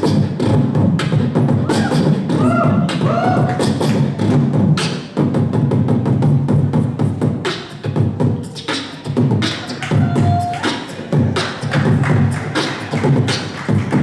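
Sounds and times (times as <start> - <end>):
person beatboxing: 0.0 - 14.0.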